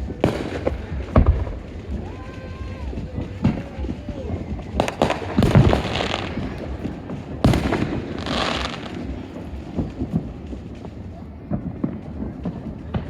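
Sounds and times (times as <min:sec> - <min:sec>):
firework bang: 0:00.0 - 0:13.0
hissing crackle: 0:00.0 - 0:13.0
small firework pops and thuds: 0:00.0 - 0:13.0.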